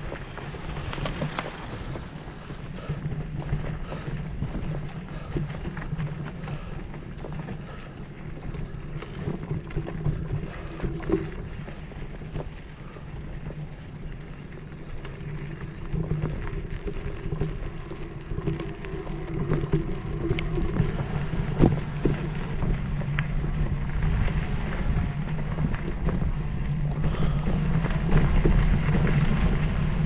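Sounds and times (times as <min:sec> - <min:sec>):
low engine-like hum: 0:00.0 - 0:30.0
wind noise on microphone: 0:00.0 - 0:30.0.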